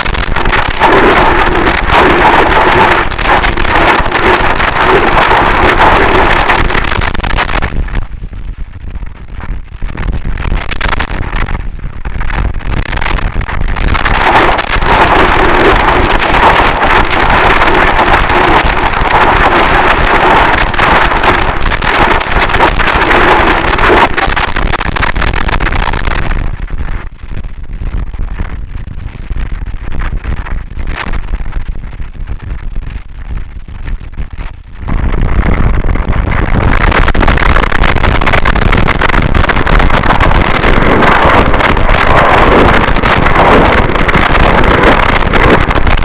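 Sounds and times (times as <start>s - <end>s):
distorted static noise wall: 0.0s - 46.0s
muffled crackling: 0.0s - 46.0s.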